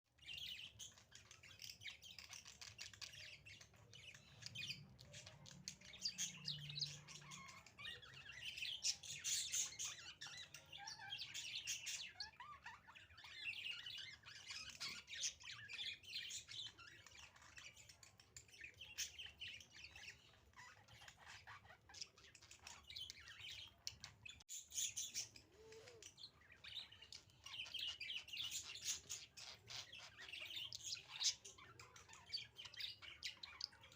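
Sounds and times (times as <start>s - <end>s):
budgerigars chirping: 0.2s - 33.9s.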